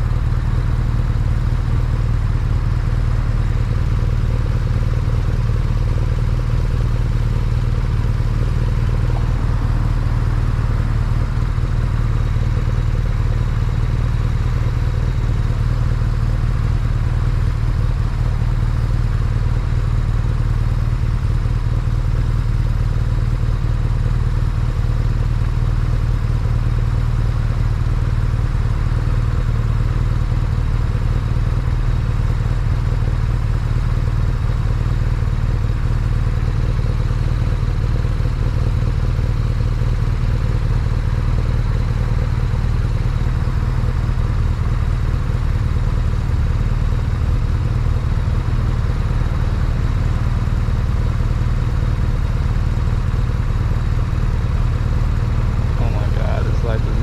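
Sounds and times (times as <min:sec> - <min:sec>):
motorcycle engine running steadily: 0:00.0 - 0:57.0.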